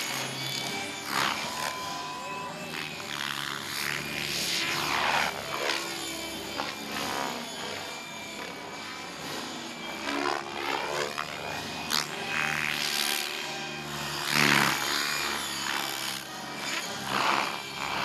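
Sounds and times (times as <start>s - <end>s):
model helicopter rotor and motor: 0.0s - 18.0s.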